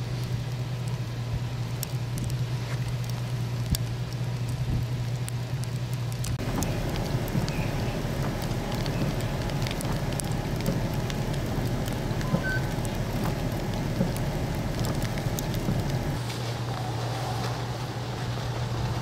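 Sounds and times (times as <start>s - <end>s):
drops ticking on pavement and vehicles: 0.0s - 16.9s
freezing rain hissing: 0.0s - 19.0s
low steady hum: 0.0s - 19.0s.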